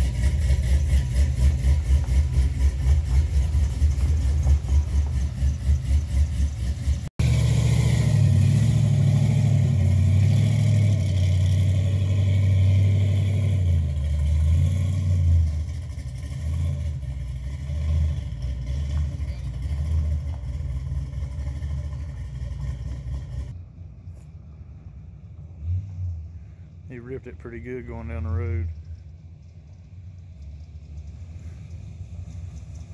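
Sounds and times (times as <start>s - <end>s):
truck engine rumbling: 0.0s - 32.9s.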